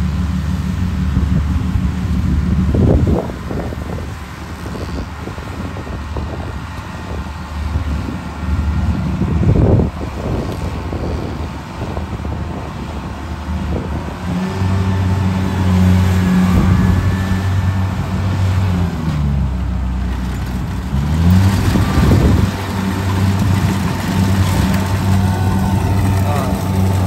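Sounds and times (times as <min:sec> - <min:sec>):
combine harvester diesel engine: 0:00.0 - 0:27.0.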